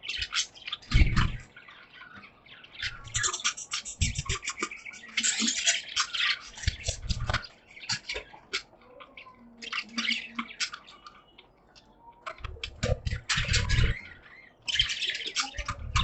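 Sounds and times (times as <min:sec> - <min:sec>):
budgerigars chattering: 0:00.0 - 0:11.6, 0:12.3 - 0:16.0.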